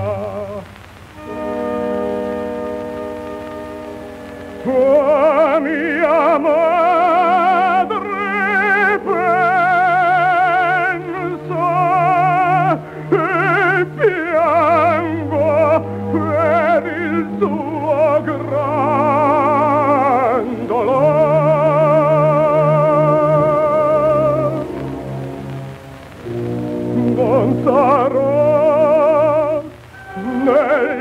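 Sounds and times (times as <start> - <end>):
tenor singing opera: 0.0 - 1.6, 4.6 - 31.0
instrumental accompaniment: 0.0 - 31.0.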